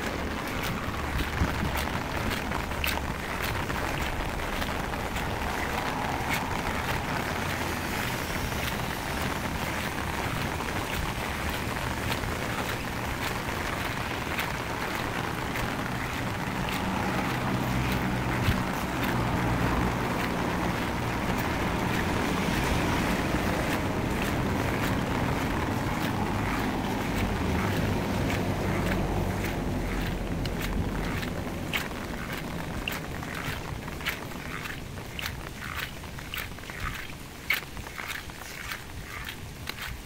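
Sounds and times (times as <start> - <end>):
low rumble: 0.0 - 36.7
heavy rain pouring: 0.0 - 40.0
raindrops hitting close: 0.0 - 40.0.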